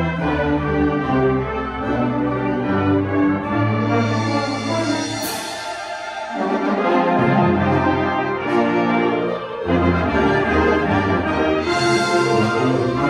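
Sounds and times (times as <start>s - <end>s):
wind band playing chords: 0.0s - 13.0s.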